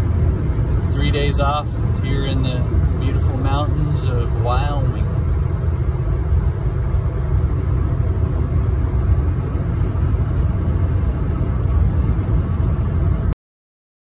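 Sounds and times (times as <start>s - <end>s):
road rumble inside vehicle: 0.0s - 13.4s.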